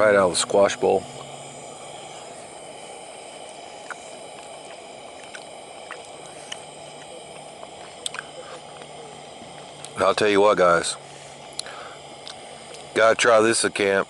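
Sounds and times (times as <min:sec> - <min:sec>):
faint high whine: 0:00.0 - 0:14.0
outdoor background hiss: 0:00.0 - 0:14.0.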